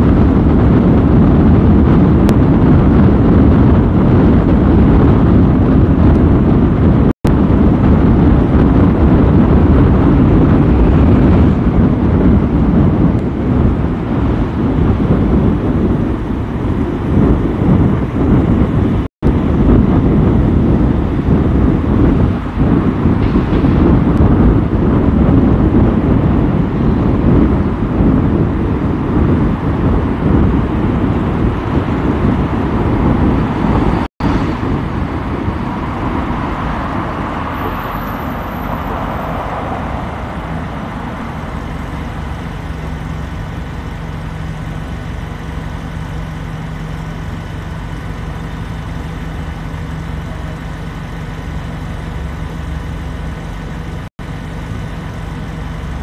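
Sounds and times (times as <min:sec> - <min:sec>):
low engine hum: 0:00.0 - 0:56.0
road rumble: 0:00.0 - 0:56.0
wind noise: 0:00.0 - 0:56.0.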